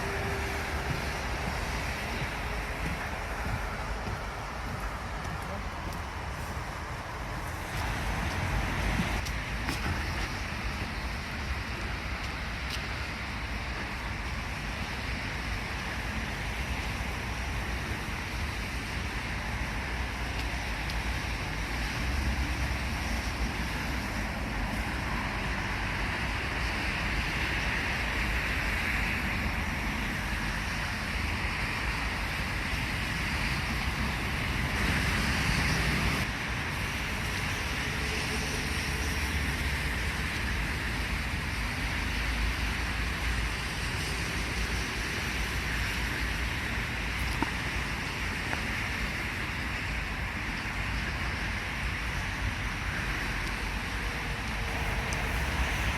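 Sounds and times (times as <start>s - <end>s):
distant road traffic rumble: 0.0s - 55.9s.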